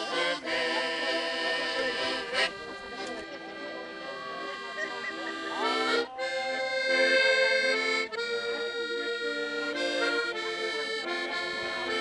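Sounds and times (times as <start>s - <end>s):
accordion playing chords: 0.0s - 12.0s.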